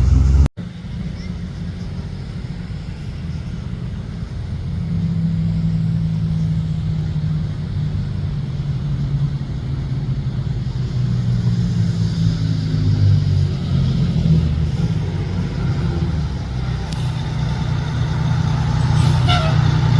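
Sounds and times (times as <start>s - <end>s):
fire truck engine drone: 0.0s - 19.9s.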